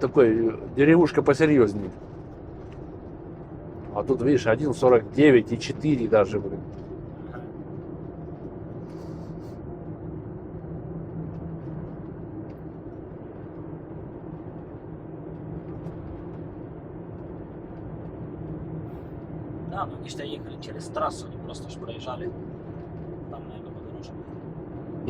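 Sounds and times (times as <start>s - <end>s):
car engine hum: 0.0s - 25.0s
road noise: 0.0s - 25.0s.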